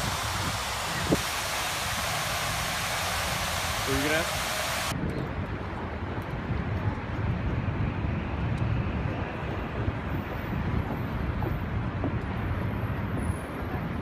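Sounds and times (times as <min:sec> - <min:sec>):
city background rumble: 0:00.0 - 0:14.0.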